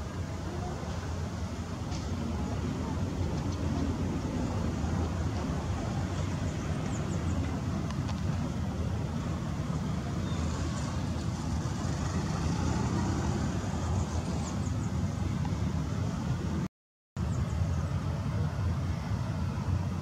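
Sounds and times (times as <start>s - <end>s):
low rumble of jet engines: 0.0s - 20.0s.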